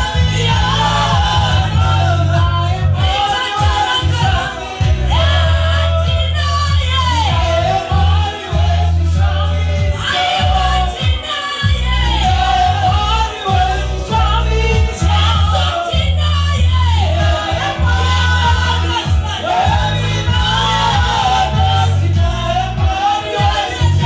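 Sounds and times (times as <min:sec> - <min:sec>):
group singing gospel song: 0:00.0 - 0:24.0
loud bass accompaniment: 0:00.0 - 0:24.0.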